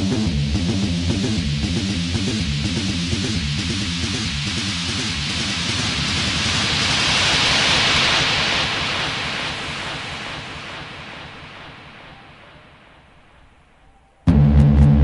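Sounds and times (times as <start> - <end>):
electronic dance beat: 0.0 - 13.2
synthesized white-noise swell: 1.9 - 15.0.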